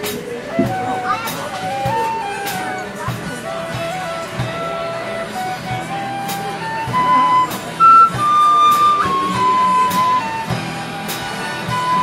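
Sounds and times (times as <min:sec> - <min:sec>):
bass guitar: 0:00.0 - 0:12.0
tin whistle melody: 0:00.5 - 0:12.0.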